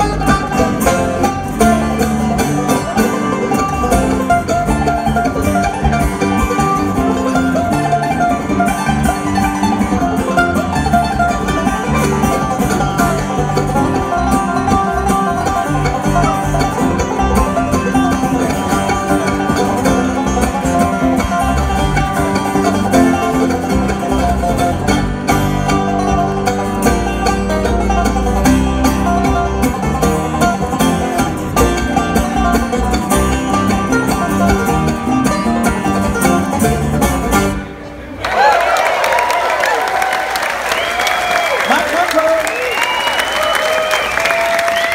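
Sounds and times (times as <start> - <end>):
electric bass: 0.0 - 37.8
acoustic guitar: 0.0 - 38.0
banjo: 0.0 - 38.2
mandolin: 0.0 - 38.2.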